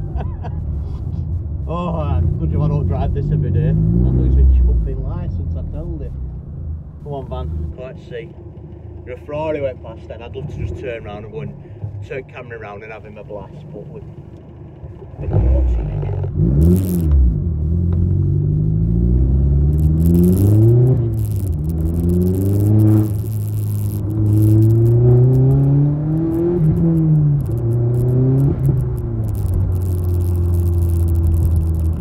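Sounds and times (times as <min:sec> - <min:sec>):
car engine pulling hard: 0:00.0 - 0:32.0.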